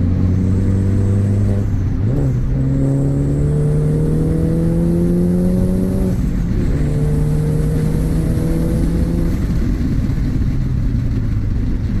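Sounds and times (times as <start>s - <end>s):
car engine accelerating hard: 0.0s - 11.1s.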